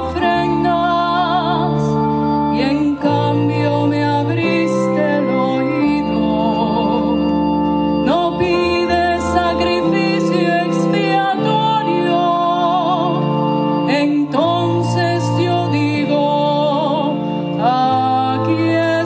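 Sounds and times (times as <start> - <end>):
organ chords: 0.0 - 19.0
woman singing with vibrato: 0.0 - 19.0.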